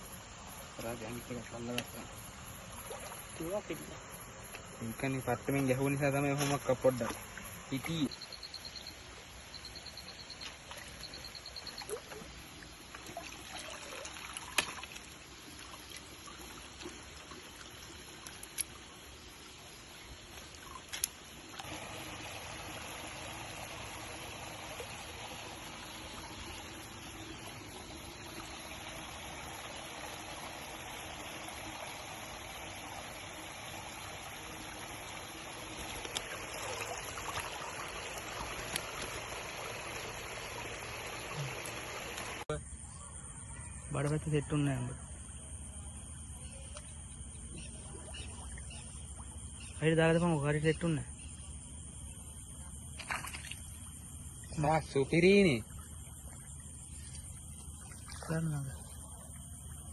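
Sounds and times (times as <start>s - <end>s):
water trickling and running: 0.0s - 42.5s, 46.4s - 59.9s.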